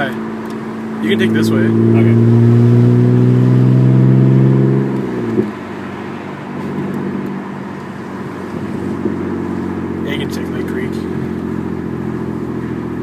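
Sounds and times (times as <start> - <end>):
loud car engine droning: 0.0 - 13.0.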